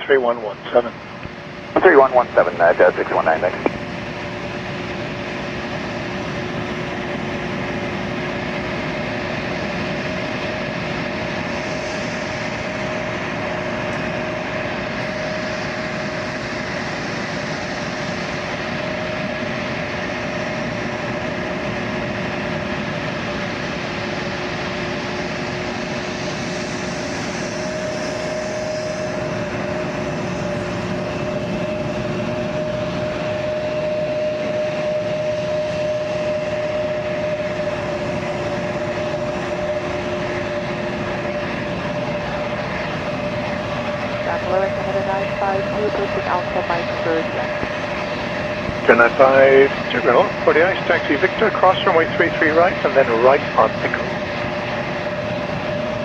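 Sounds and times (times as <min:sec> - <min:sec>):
aircraft engines idling: 0:00.0 - 0:56.0.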